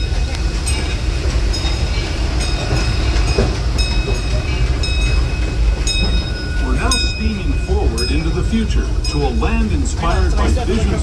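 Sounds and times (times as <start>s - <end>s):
train coach rumbling: 0.0s - 11.0s
wheels clicking over rail joints: 0.0s - 11.0s.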